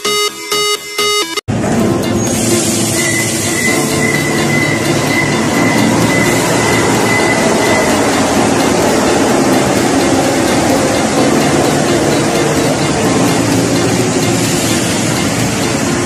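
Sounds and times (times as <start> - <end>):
metro train rumbling past: 1.5 - 16.0
high squeal: 1.9 - 16.0.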